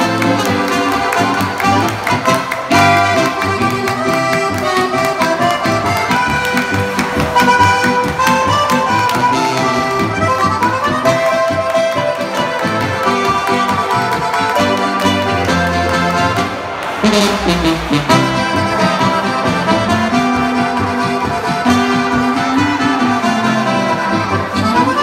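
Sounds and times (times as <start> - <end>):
accordion: 0.0 - 25.0
brass instruments: 0.0 - 25.0
folk band playing: 0.0 - 25.0.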